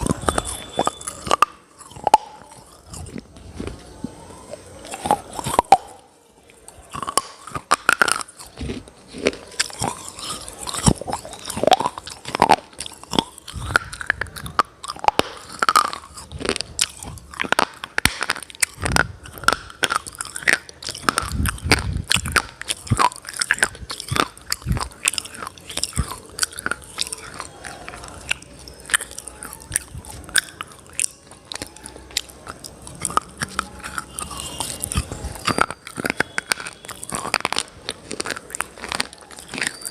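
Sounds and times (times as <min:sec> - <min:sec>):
grinding chews: 0:00.0 - 0:39.9
person crunching chalky pieces: 0:00.0 - 0:39.9.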